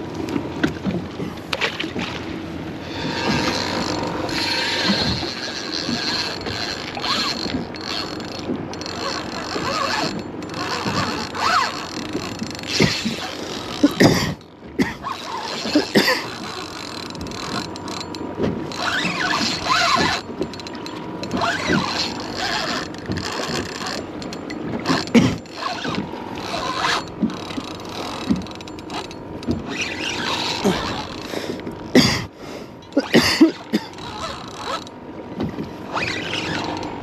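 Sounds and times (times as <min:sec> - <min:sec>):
fishing reel cranking and ratcheting: 0:02.8 - 0:14.1, 0:15.0 - 0:32.0, 0:32.8 - 0:35.0, 0:35.9 - 0:37.0.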